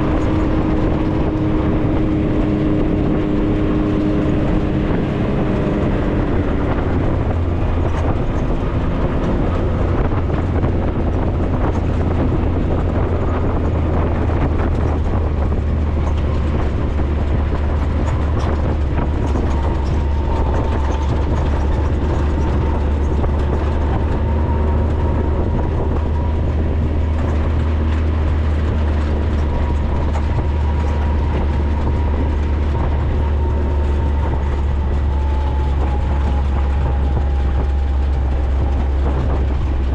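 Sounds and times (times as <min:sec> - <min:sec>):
engine and drivetrain drone: 0:00.0 - 0:39.9
light rattling and clicking: 0:00.0 - 0:39.9.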